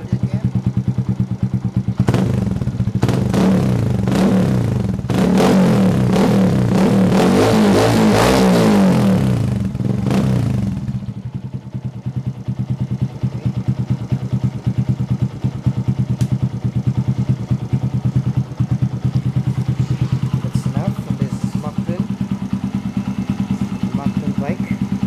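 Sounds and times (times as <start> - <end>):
motorcycle engine revving and idling: 0.0 - 25.0.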